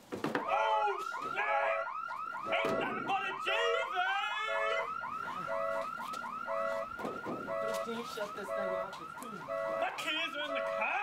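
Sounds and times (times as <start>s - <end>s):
car alarm chirps: 0.4s - 11.0s.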